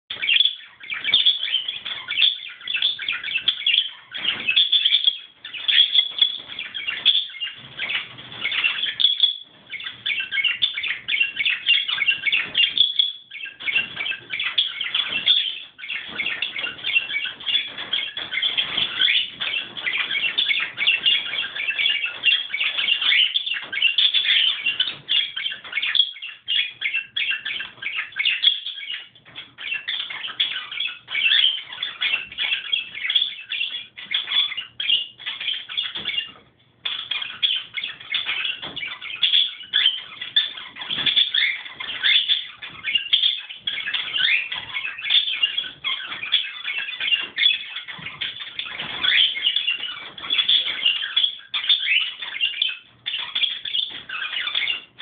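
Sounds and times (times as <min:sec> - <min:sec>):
budgerigar warbling chatter: 0:00.1 - 0:55.0.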